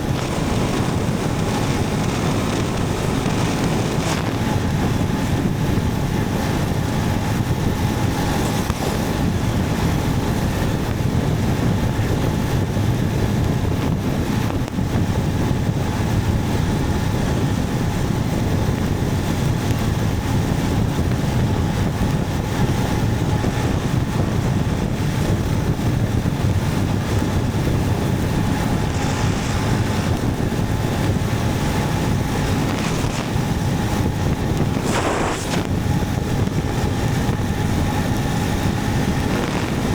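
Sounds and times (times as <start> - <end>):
motorcycle cruising: 0.0 - 39.9
wind on microphone: 0.0 - 39.9.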